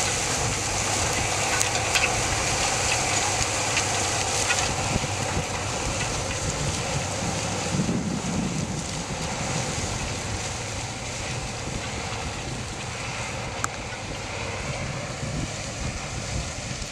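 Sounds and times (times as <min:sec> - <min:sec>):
tractor running under load: 0:00.0 - 0:16.9
wind buffeting microphone: 0:00.0 - 0:16.9.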